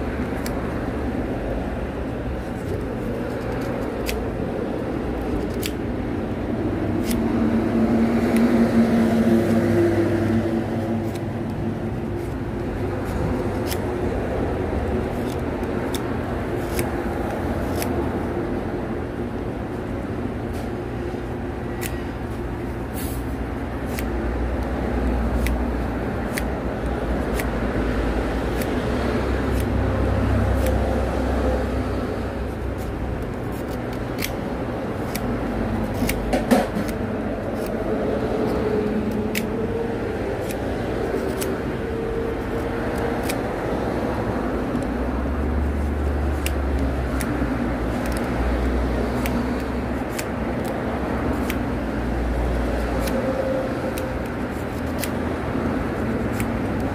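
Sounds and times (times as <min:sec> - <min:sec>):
knife shaving wood: 0:00.0 - 0:19.5, 0:20.4 - 0:56.9.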